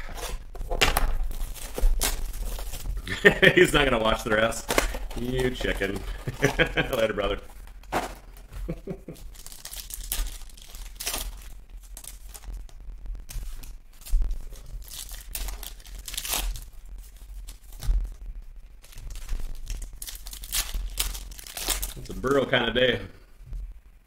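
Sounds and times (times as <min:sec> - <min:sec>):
foil pack tearing and crinkling: 0:00.0 - 0:18.2, 0:18.8 - 0:22.9
low microphone buzz: 0:00.0 - 0:20.0.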